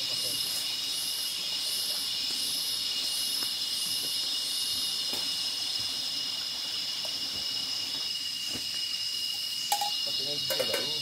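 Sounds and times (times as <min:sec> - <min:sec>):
insects buzzing high: 0:00.0 - 0:11.0
pulsing high insect call: 0:00.0 - 0:11.0.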